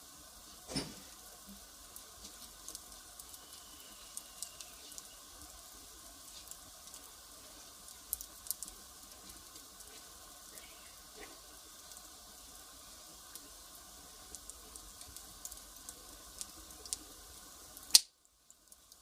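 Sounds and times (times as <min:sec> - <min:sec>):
fire hissing: 0:00.0 - 0:19.0
fire popping and snapping: 0:00.3 - 0:19.0.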